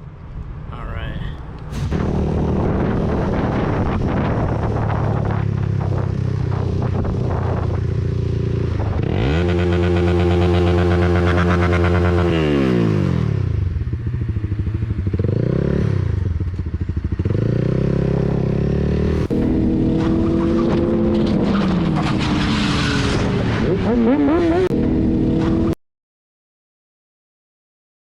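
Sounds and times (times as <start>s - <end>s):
motorcycle engine accelerating: 1.7s - 25.8s.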